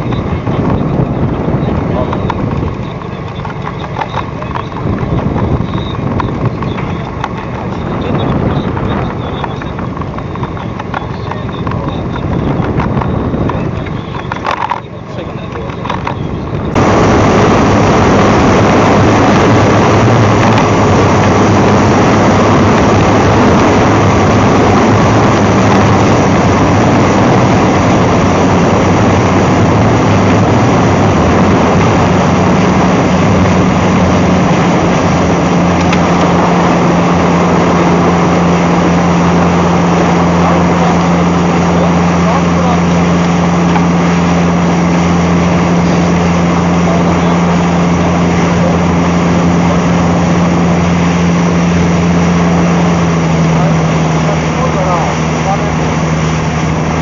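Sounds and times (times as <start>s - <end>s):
motorboat engine running: 0.0s - 57.0s
rush of wind and water: 0.0s - 57.0s.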